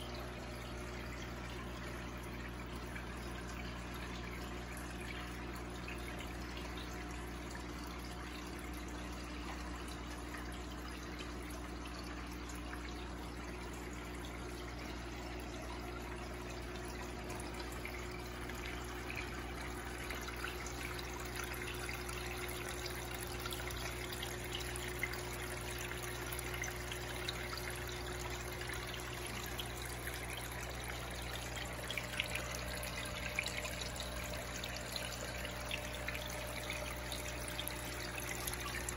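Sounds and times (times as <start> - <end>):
low steady hum: 0.0 - 38.9
water drips: 0.0 - 38.9
water trickling and splashing: 0.0 - 38.9.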